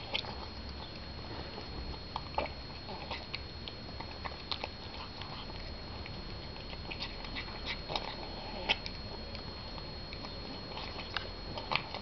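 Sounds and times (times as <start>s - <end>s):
cat chewing food: 0.0s - 12.0s.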